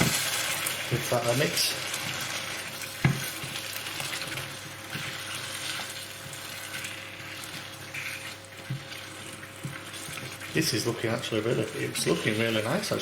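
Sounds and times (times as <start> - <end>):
sauce sizzling in a hot pan: 0.0 - 13.0.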